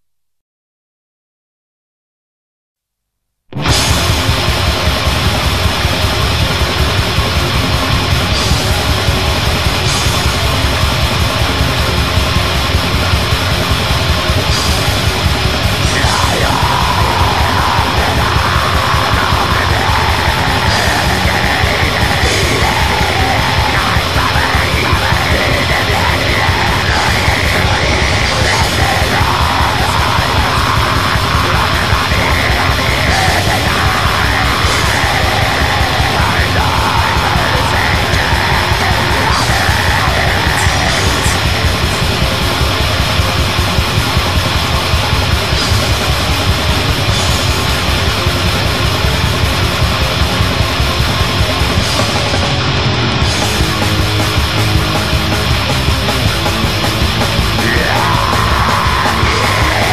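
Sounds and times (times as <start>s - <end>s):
distorted guitars: 3.5s - 59.9s
fast drumming: 3.6s - 59.9s
harsh screamed vocals: 3.6s - 59.9s.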